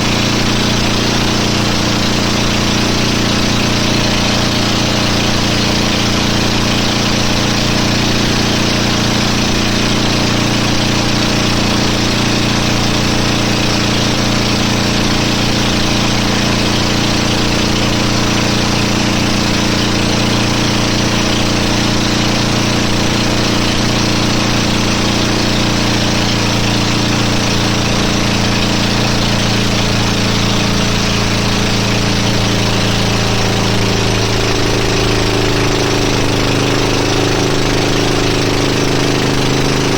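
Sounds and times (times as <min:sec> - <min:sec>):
motorboat engine running: 0:00.0 - 0:39.9.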